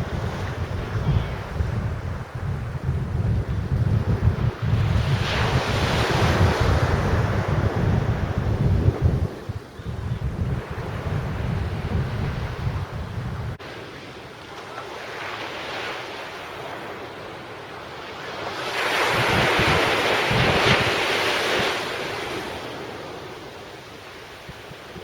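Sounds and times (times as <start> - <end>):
wind buffeting microphone: 0.0 - 14.0, 18.4 - 25.0
surf washing on beach: 0.0 - 25.0.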